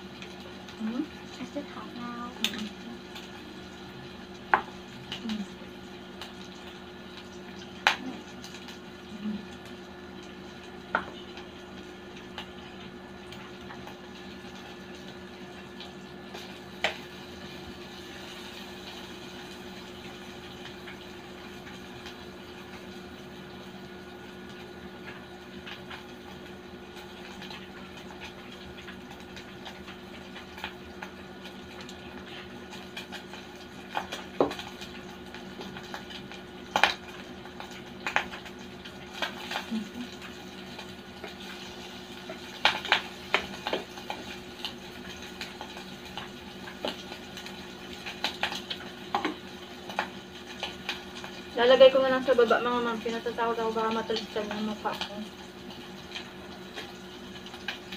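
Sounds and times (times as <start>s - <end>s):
meat sizzling on a grill: 0.0s - 57.9s.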